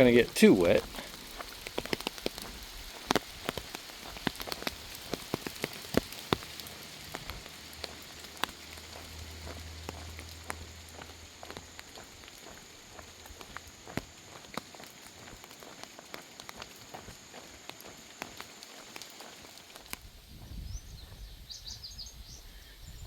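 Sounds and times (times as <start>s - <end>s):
raindrops tapping on umbrella: 0.0s - 20.1s
faint rain patter: 0.0s - 21.2s.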